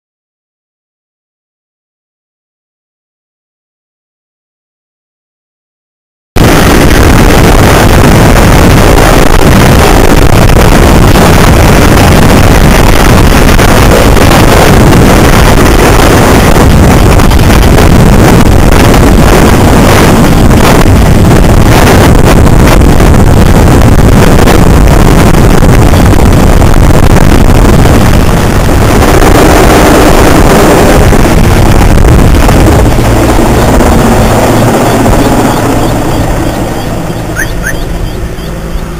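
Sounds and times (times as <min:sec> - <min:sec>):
helicopter rotor chop and turbine: 0:06.4 - 0:38.9.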